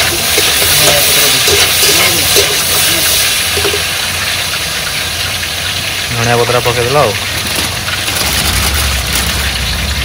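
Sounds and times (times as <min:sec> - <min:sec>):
food frying in a pan: 0:00.0 - 0:10.0.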